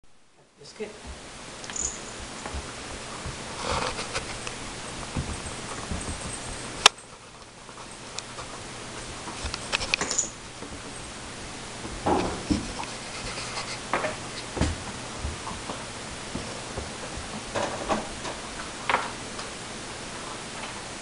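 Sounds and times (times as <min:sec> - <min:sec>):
puppy scrambling and scuffling: 0:01.0 - 0:19.6.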